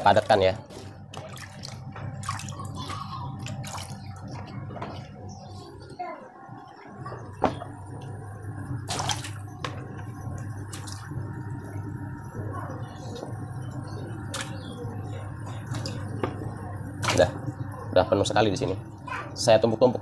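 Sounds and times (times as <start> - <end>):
water sloshing: 0.0 - 5.8, 6.6 - 18.0
refrigeration unit humming: 0.0 - 20.0.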